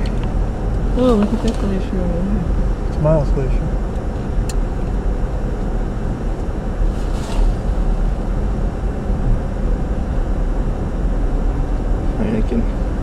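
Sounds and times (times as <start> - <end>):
road and wind noise in vehicle: 0.0 - 13.0.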